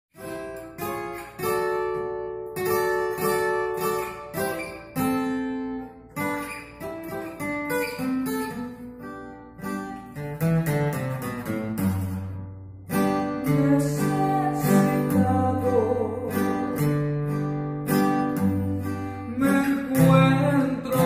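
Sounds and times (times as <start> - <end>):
acoustic guitar strumming: 0.1 - 21.0.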